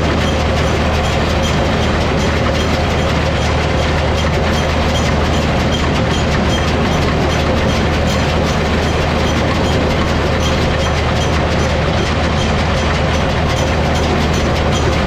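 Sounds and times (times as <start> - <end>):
hay machinery rattling: 0.0 - 15.0
tractor engine running: 0.0 - 15.0.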